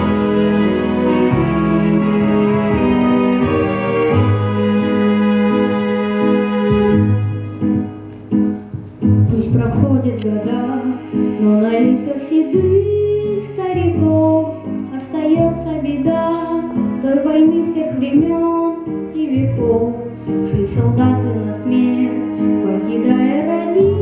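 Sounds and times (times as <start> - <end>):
instrumental backing track: 0.0 - 24.0.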